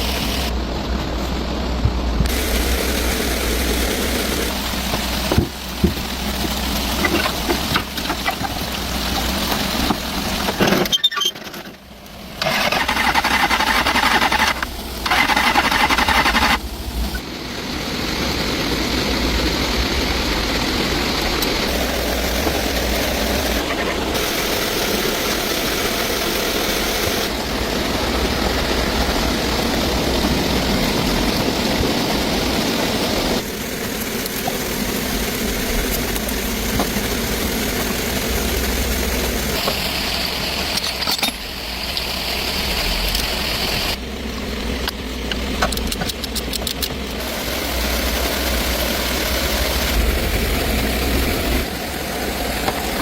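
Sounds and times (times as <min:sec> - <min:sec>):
engine running with low hum: 0:00.0 - 0:53.0.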